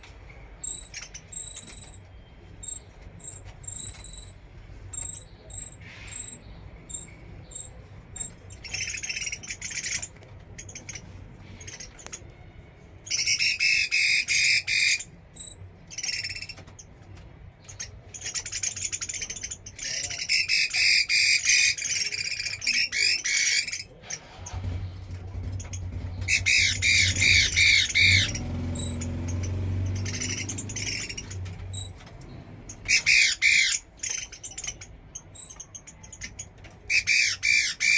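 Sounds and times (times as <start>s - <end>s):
bird singing rapid phrases: 0.3s - 37.9s.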